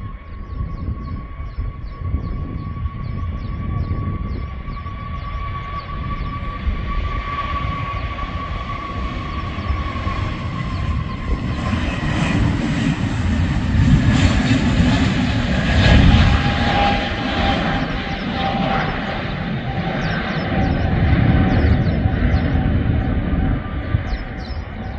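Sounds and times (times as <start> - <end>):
jet engines rumbling and whining: 0.0 - 24.9.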